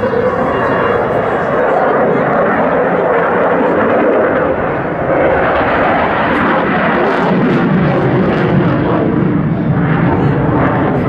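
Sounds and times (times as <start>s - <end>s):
fighter jet flying: 0.0s - 11.0s.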